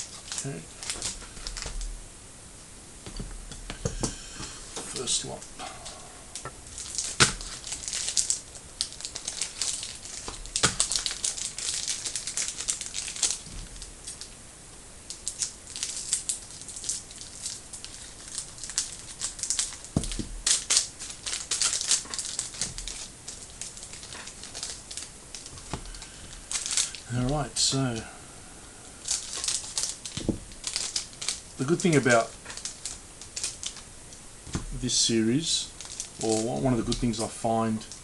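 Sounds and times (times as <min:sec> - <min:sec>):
card pack wrappers tearing: 0:00.0 - 0:01.8, 0:04.8 - 0:14.3, 0:15.1 - 0:28.0, 0:29.0 - 0:33.8, 0:34.8 - 0:38.0.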